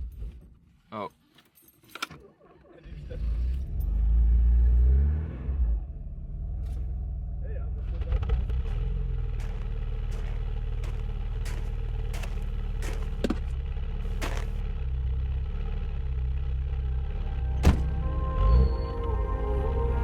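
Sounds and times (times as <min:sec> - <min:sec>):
car engine rumbling: 0:02.9 - 0:20.0.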